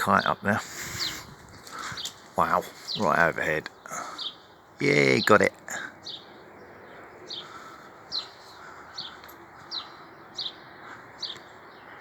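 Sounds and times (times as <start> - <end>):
small bird alarm calls: 0.0 - 12.0.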